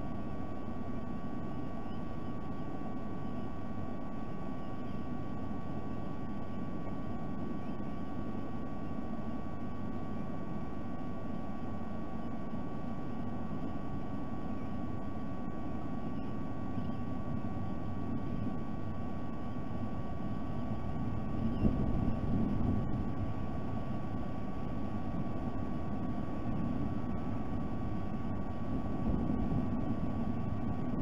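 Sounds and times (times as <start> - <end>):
low background rumble: 0.0 - 31.0
thin electrical tone: 0.0 - 31.0.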